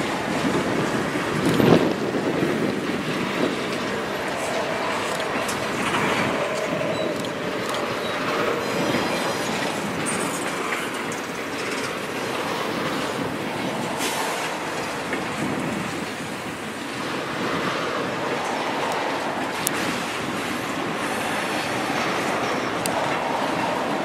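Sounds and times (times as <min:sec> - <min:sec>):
freight train rolling past: 0:00.0 - 0:24.0.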